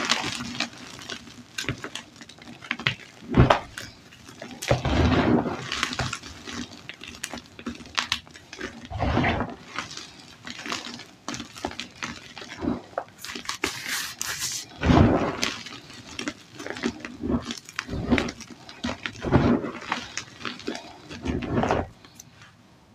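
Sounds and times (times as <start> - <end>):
chalk crunching and crumbling: 0.0 - 22.5.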